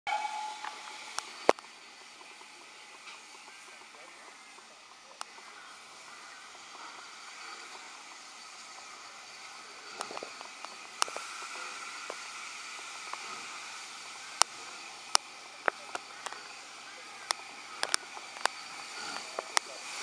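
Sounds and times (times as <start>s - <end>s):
steam locomotive hissing: 0.1s - 20.0s.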